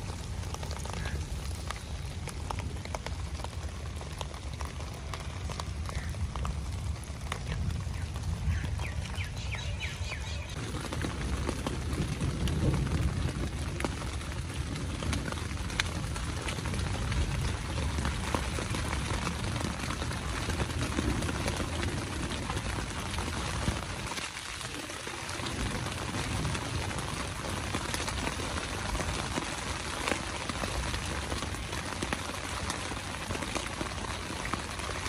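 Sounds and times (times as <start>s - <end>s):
rain on tent fabric: 0.0s - 35.0s.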